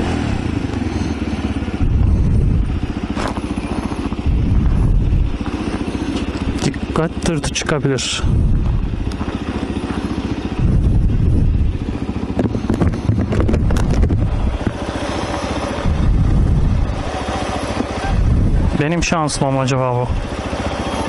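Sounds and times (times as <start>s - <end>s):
motorcycle engine near idle: 0.0s - 21.0s.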